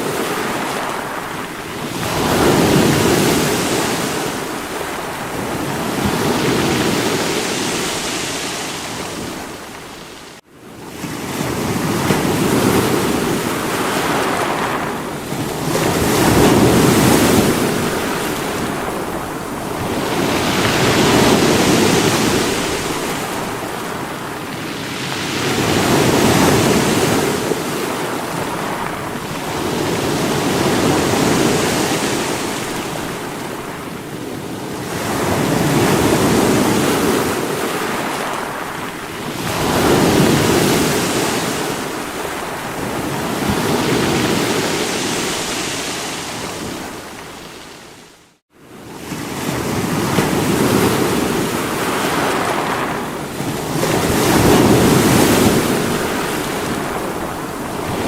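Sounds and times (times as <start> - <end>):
sea waves breaking on rocks: 0.0 - 47.7, 49.0 - 58.0.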